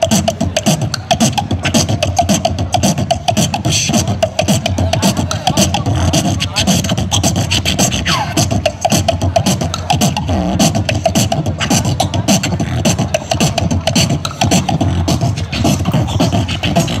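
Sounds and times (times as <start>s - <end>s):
beatboxing through amplifier: 0.0s - 17.0s.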